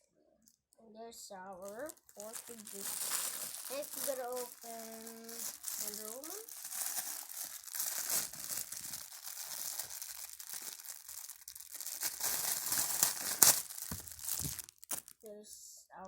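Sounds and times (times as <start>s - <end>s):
packaging crinkling and tearing: 1.6s - 15.3s.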